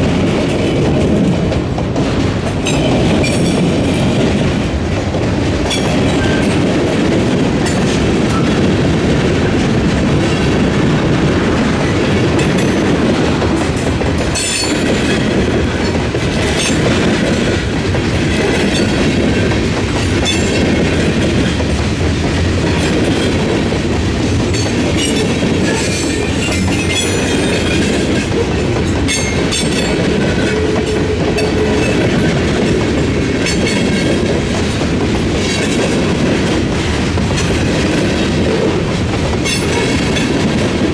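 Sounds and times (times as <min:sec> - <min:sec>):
freight train rumble: 0:00.0 - 0:40.9
wheels clattering on crossing rails: 0:00.0 - 0:40.9.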